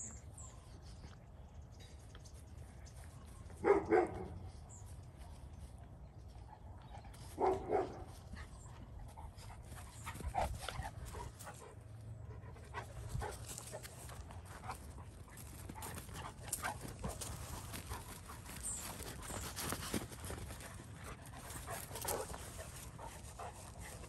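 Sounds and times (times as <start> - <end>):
dogs panting and scuffling: 0.3 - 24.0.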